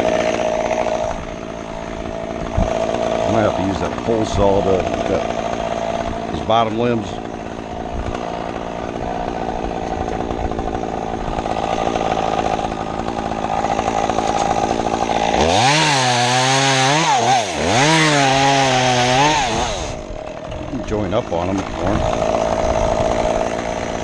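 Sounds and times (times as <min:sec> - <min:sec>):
chainsaw engine running: 0:00.0 - 0:24.0
saw revving loudly: 0:00.0 - 0:24.0.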